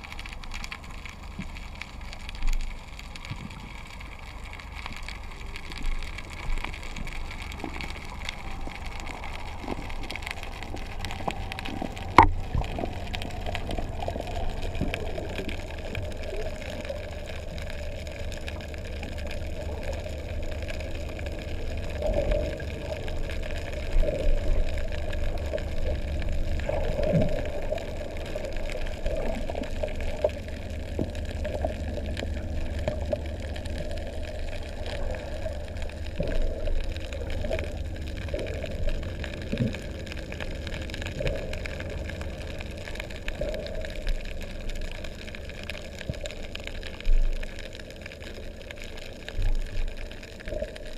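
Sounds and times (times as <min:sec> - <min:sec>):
underwater water noise: 0:00.0 - 0:50.9.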